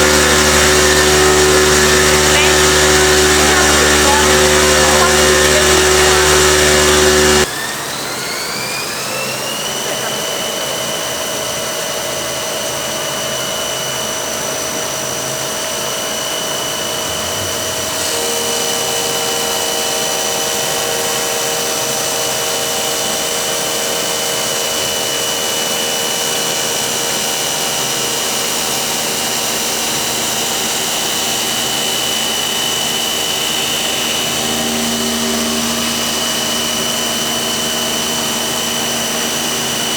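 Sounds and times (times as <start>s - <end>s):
motor whine rising in pitch: 0.0s - 39.9s
stone cutting machine running: 0.0s - 39.9s.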